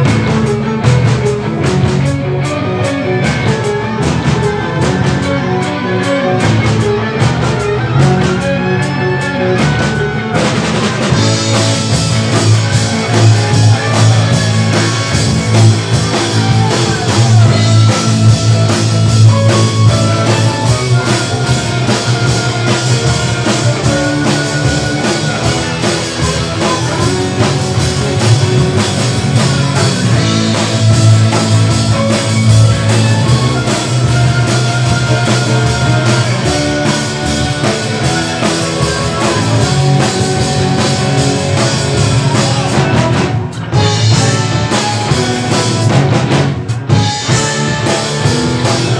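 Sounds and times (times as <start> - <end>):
bass guitar: 0.0 - 48.9
electric guitar: 0.0 - 48.9
electric violin: 0.0 - 48.9
keyboards: 0.0 - 48.9
rock beat on drum kit: 0.0 - 48.9.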